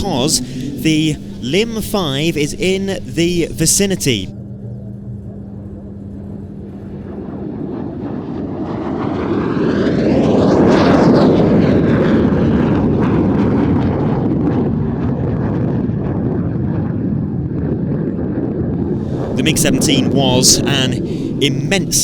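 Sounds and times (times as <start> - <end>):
jet fighter flyby roar: 0.0 - 4.3, 5.3 - 18.4, 19.0 - 22.0.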